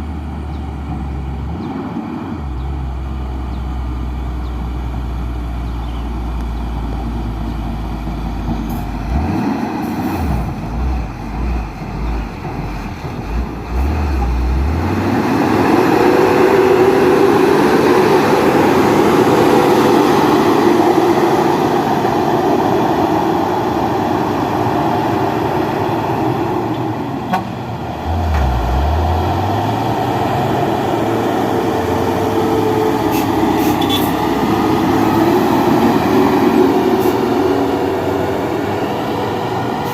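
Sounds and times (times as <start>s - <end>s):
diesel truck engine labouring: 0.0s - 39.9s.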